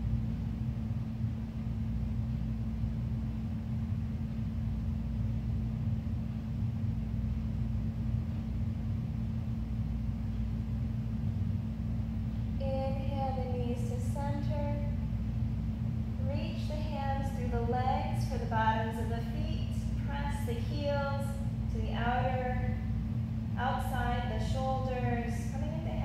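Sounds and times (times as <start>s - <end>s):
ventilation system rumble: 0.0s - 26.0s.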